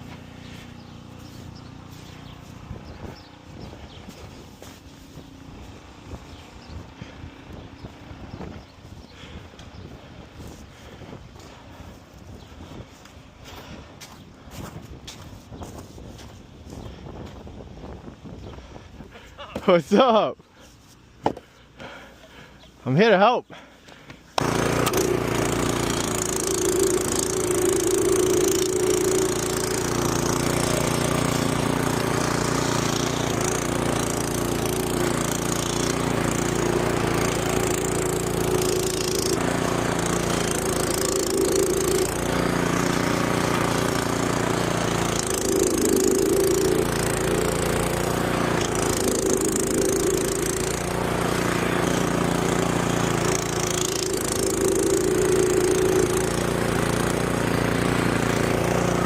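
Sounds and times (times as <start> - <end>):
snowblower engine running: 0.0 - 17.0, 23.6 - 59.0.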